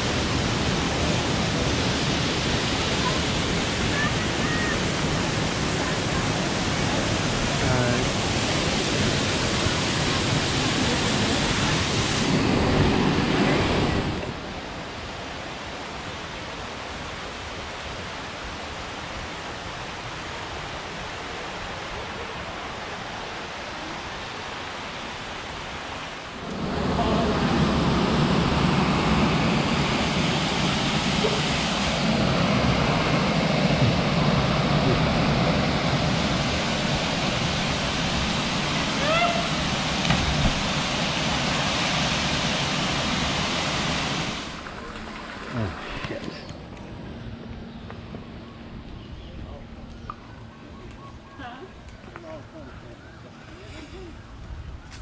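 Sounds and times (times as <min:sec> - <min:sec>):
waterfall rushing into stream: 0:00.0 - 0:46.4.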